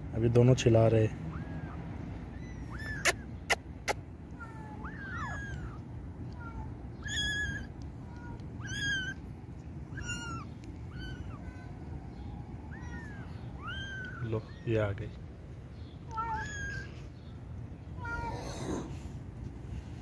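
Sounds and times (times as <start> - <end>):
kittens mewing: 1.2 - 19.2.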